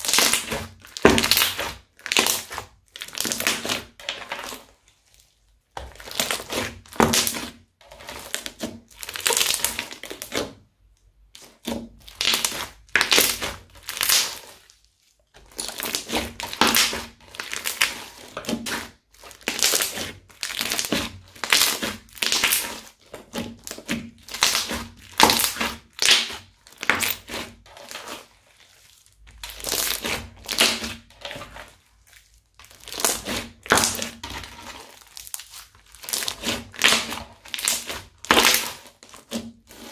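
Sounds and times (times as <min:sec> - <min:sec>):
crunchy slime crackling and popping: 0:00.0 - 0:10.6, 0:11.2 - 0:39.9.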